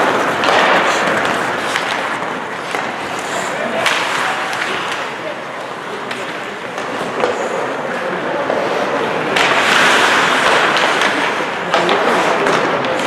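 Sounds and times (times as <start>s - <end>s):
hockey sticks and puck clacking: 0.0s - 13.0s
skates scraping ice: 0.0s - 13.0s.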